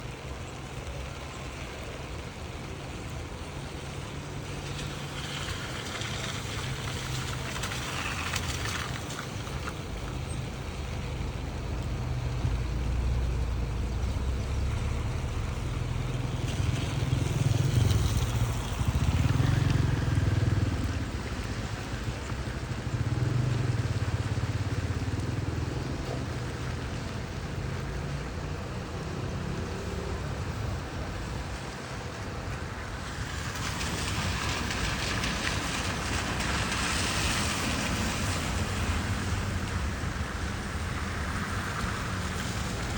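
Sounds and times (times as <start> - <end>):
hiss of rain and water: 0.0 - 42.9
vehicles passing on wet street: 0.0 - 42.9.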